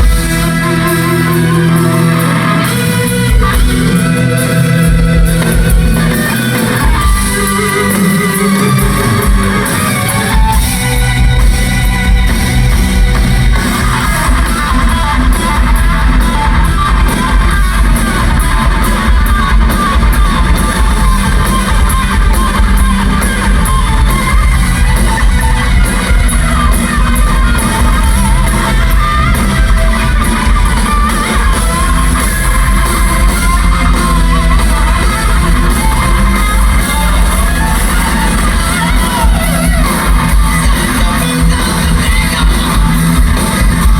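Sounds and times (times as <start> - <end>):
live rock music: 0.0 - 43.9
wavering guitar lead line: 0.0 - 43.9.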